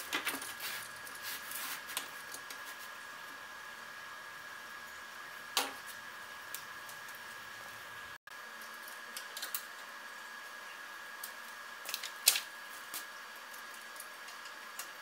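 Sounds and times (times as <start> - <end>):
faint hum with high tone: 0.0 - 15.0.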